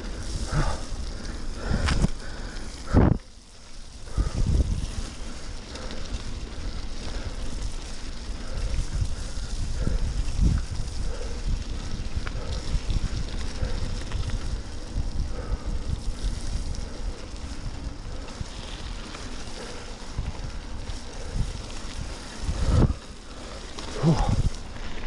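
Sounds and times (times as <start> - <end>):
bike tyres rumbling on mud: 0.0 - 25.0
wind buffeting microphone: 0.0 - 25.0.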